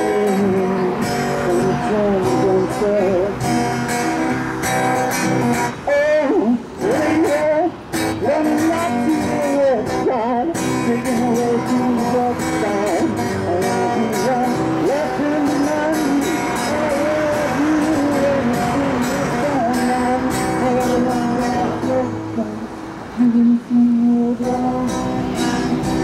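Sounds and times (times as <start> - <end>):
strummed acoustic guitar: 0.0 - 26.0.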